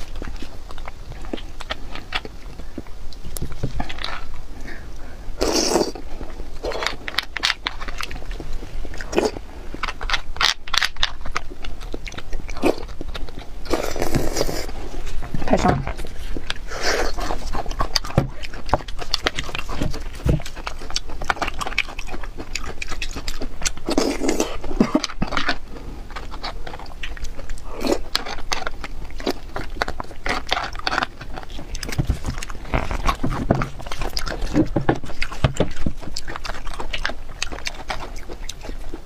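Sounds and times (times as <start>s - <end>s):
chewing and mouth smacks: 0.0s - 39.0s.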